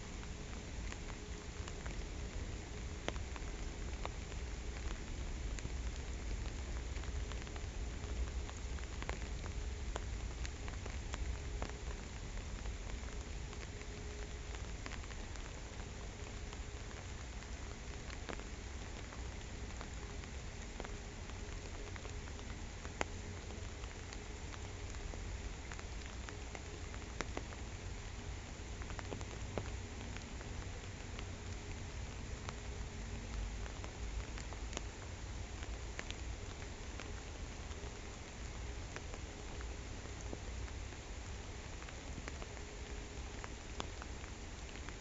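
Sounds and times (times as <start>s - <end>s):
rain falling on a pond: 0.0s - 45.0s.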